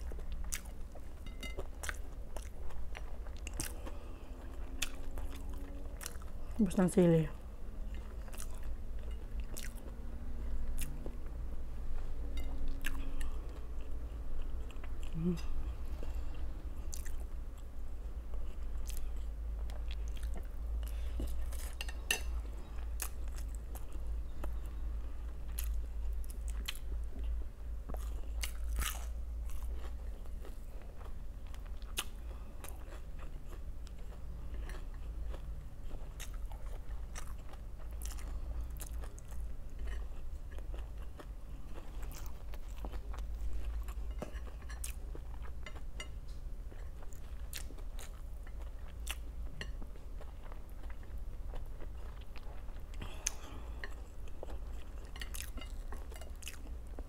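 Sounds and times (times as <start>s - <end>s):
chewing crisp fried food: 0.0s - 57.0s
steady low hum: 0.0s - 57.0s.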